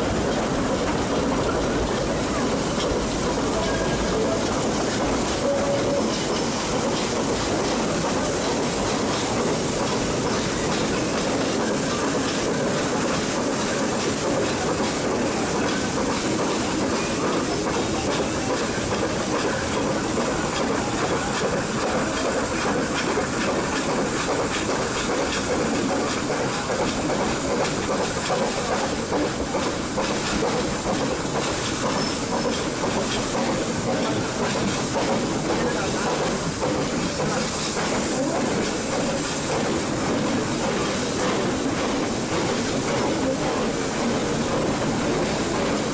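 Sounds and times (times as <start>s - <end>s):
train wheels on rail: 0.0s - 45.9s.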